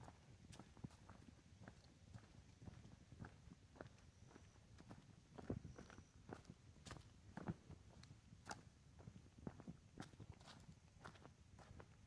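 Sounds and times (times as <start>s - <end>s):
faint footsteps on trail: 0.0s - 12.0s.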